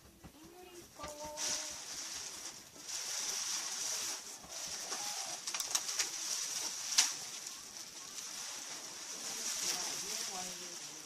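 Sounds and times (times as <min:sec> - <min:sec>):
packing material rustling: 0:01.1 - 0:11.0.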